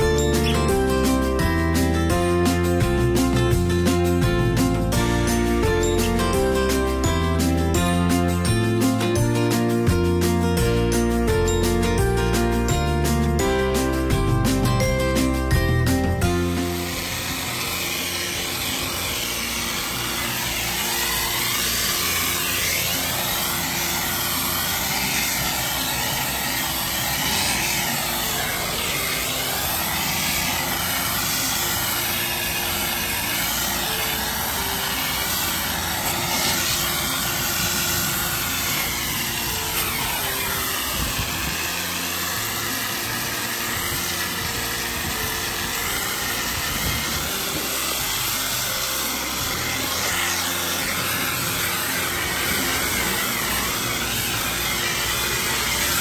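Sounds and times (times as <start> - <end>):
high-pressure water spraying on concrete: 0.0 - 56.0
pressure washer engine hum: 0.0 - 56.0.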